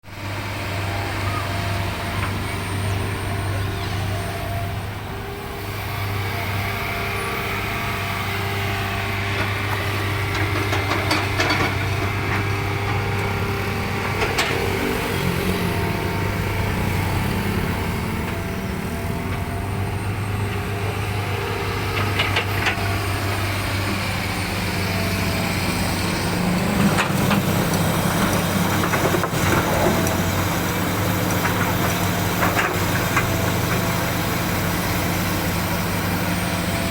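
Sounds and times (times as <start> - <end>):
excavator diesel engine running: 0.1 - 36.9.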